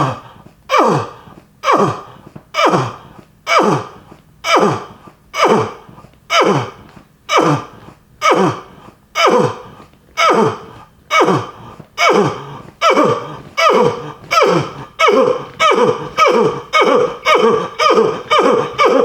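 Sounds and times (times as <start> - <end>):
person making throaty uh sounds: 0.0 - 19.0.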